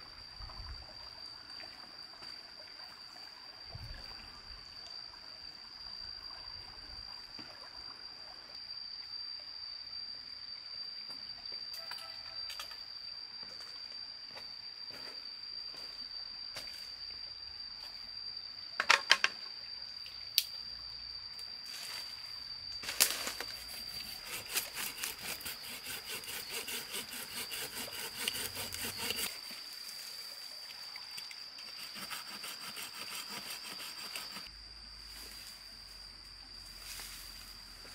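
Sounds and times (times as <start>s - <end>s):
high insect drone: 0.0s - 37.9s.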